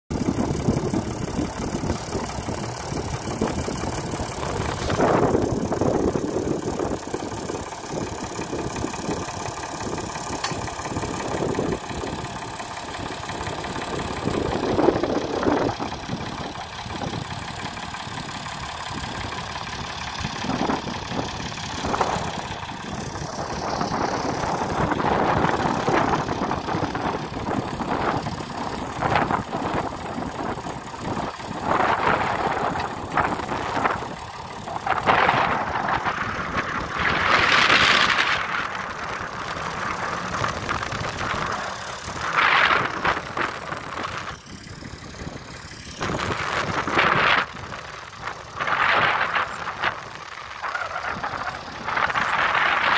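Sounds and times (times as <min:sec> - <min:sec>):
tractor diesel engine running: 0:00.1 - 0:52.9.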